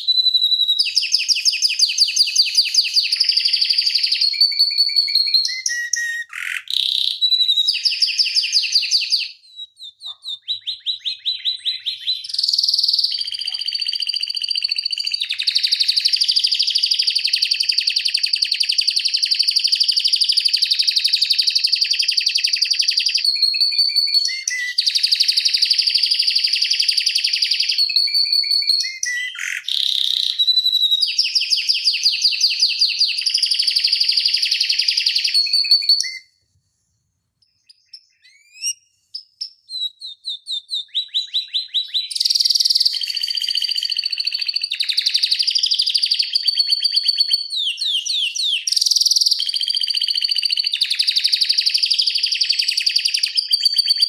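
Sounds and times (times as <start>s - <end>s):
canary singing trills: 0.0s - 36.3s, 37.4s - 54.0s.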